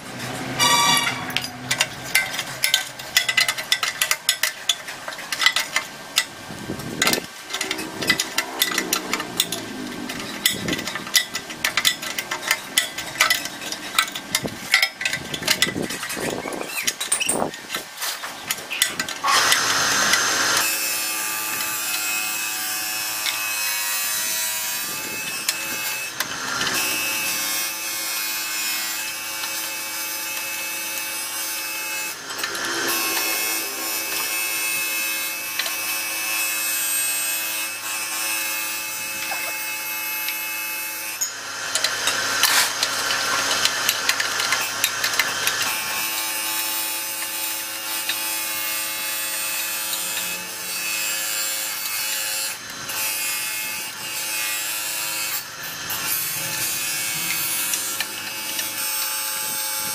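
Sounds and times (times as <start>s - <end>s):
rasping mechanical noise: 0.0s - 59.9s
metal clicks and scrapes: 0.1s - 40.4s, 41.1s - 59.9s.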